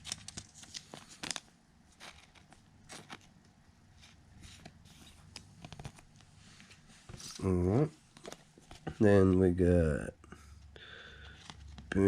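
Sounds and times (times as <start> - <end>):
trading cards rustling and clicking: 0.0 - 9.6, 11.0 - 12.0
low steady hiss: 0.0 - 12.0.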